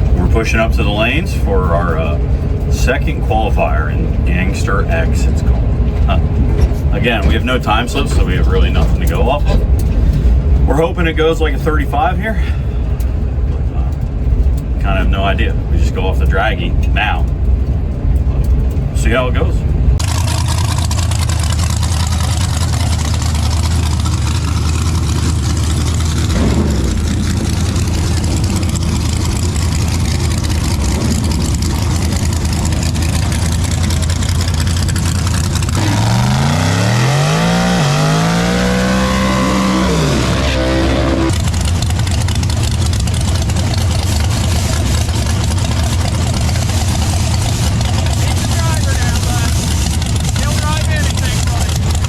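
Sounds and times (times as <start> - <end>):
engine revving: 0.0 - 17.7, 18.5 - 52.0
truck engine low rumble: 0.0 - 52.0.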